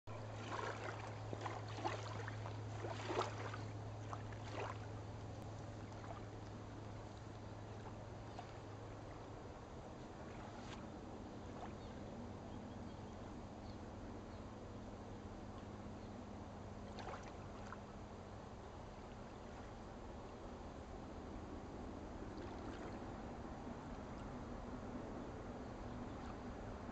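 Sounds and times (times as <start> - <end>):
faint low hum: 0.1 - 26.9
river water lapping at bank: 0.1 - 26.9.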